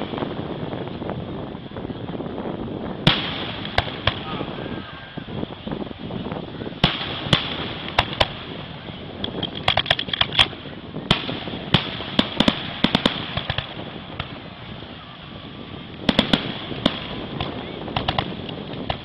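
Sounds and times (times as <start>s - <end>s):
firework bangs and crackles: 0.0s - 19.0s.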